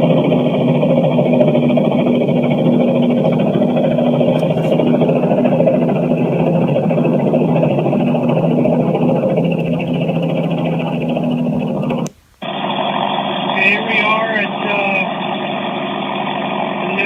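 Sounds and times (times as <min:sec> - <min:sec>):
helicopter droning: 0:00.0 - 0:17.0.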